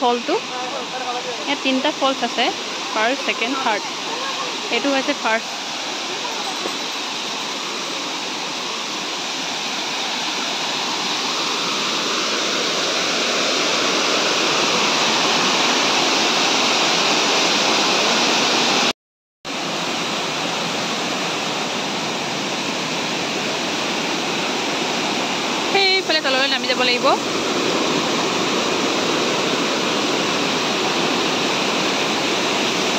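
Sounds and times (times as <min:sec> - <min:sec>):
waterfall rushing over rocks: 0:00.0 - 0:18.9, 0:19.5 - 0:32.9.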